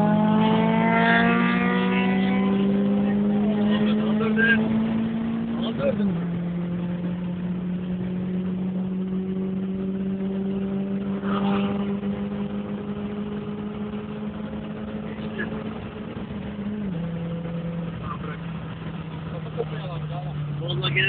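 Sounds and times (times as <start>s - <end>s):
car engine at full throttle: 0.0s - 21.0s.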